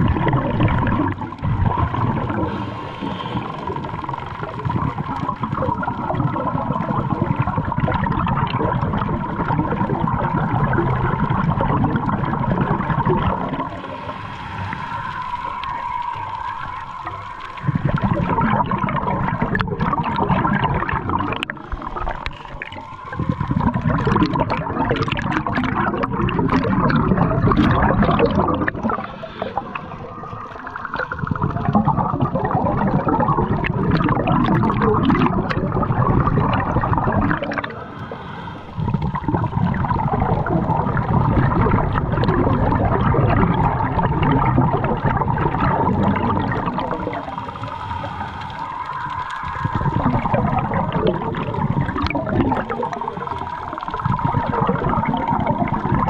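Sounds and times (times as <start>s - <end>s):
faint steady hum: 0.0s - 56.0s
underwater rushing and bubbling: 0.0s - 56.0s.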